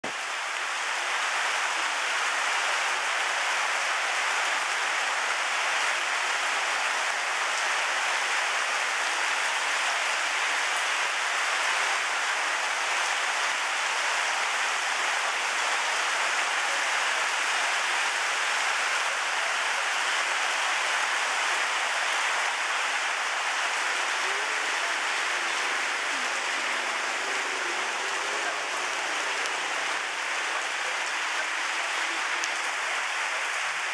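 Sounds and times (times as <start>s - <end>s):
heavy rain on surfaces: 0.0s - 33.9s.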